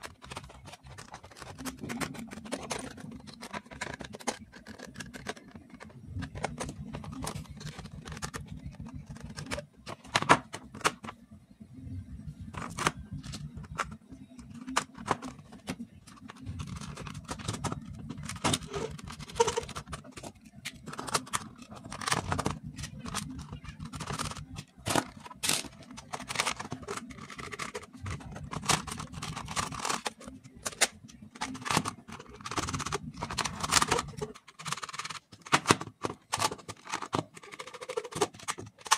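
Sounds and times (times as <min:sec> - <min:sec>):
plastic parts clicking and clattering: 0:00.0 - 0:11.2, 0:12.4 - 0:38.9.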